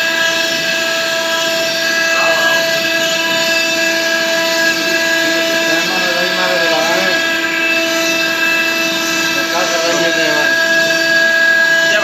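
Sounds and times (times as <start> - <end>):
cnc machine whining: 0.0 - 12.0.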